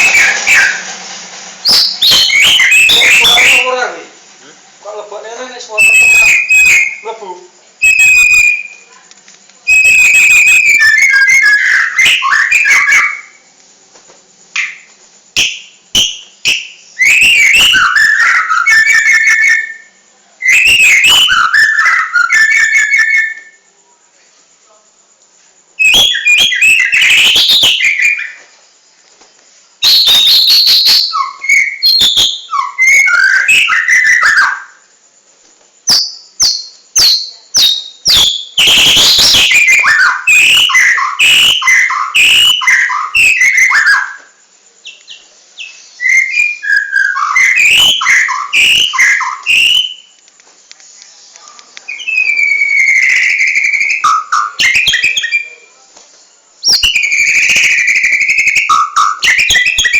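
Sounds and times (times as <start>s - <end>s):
songbird singing: 0.0s - 4.2s, 4.8s - 13.6s, 14.5s - 23.8s, 25.7s - 28.6s, 29.8s - 35.1s, 35.7s - 59.9s.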